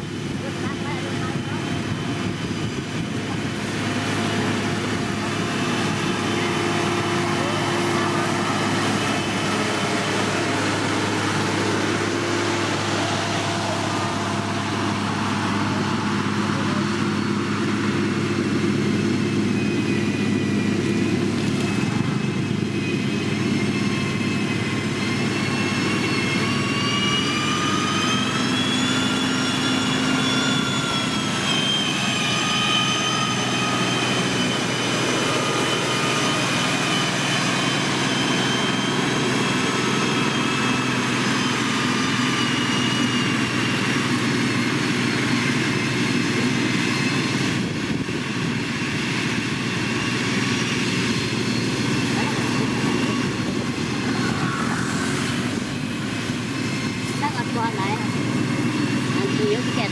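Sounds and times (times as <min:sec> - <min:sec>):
heavy machinery diesel engine: 0:00.0 - 0:59.9
high whine: 0:00.0 - 0:59.9.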